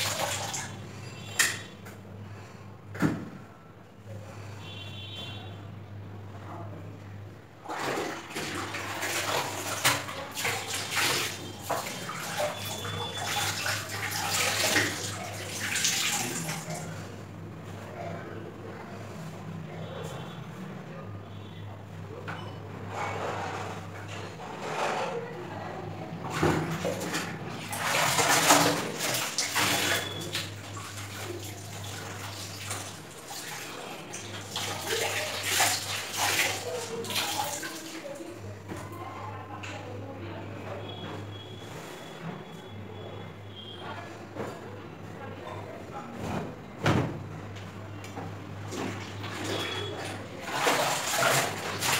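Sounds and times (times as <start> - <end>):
water sloshing in a bucket: 0.0 - 5.6, 7.3 - 18.6, 22.7 - 51.9.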